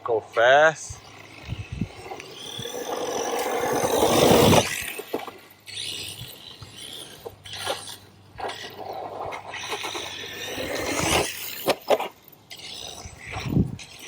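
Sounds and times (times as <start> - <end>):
rc truck accelerating over dirt: 0.0 - 14.0.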